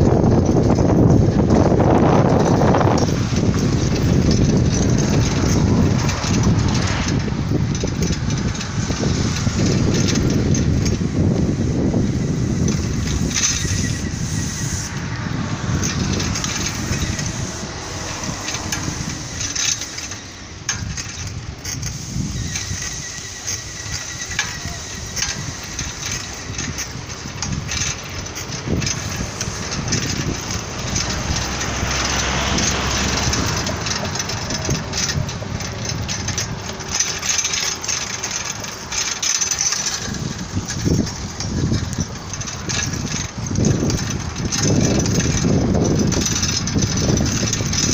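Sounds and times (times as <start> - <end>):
street traffic: 0.0 - 47.9
vehicle passing: 1.0 - 21.4, 24.9 - 47.9.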